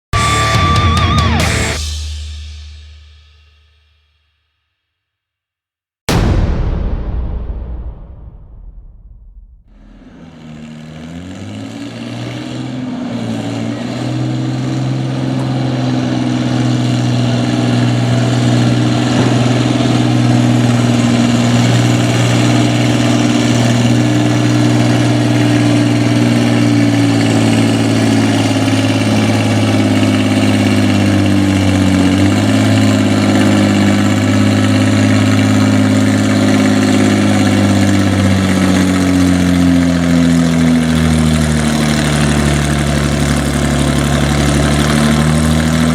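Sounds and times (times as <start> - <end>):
tractor engine running: 0.2 - 2.0, 9.2 - 45.9.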